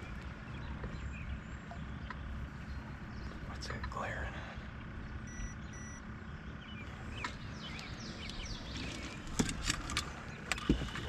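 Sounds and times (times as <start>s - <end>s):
bird chirping: 0.0s - 3.9s, 4.6s - 11.0s
low rumble: 0.0s - 11.0s.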